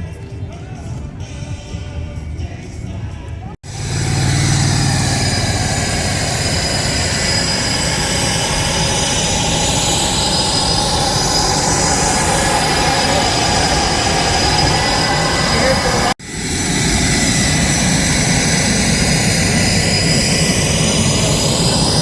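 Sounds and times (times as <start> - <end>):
jet aircraft flying past: 3.6 - 22.0.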